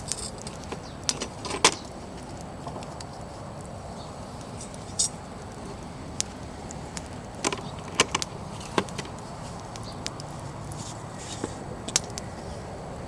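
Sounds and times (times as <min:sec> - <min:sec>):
fire crackling and popping: 0:00.0 - 0:13.0
fire hissing: 0:00.0 - 0:13.0.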